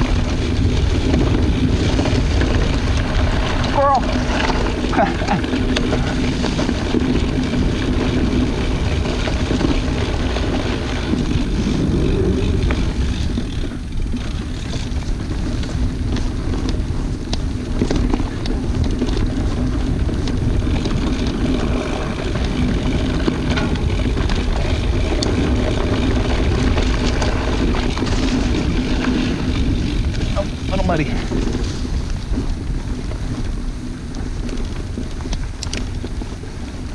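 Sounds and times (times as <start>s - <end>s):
bike tyres rumbling on dirt: 0.0s - 36.9s
knocks and rattles of bike: 0.0s - 36.9s
wind on microphone: 0.0s - 36.9s.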